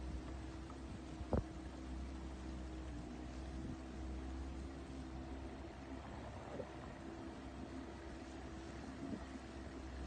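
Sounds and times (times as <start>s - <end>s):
outboard motor humming: 0.0s - 10.0s
water washing along hull: 0.0s - 10.0s.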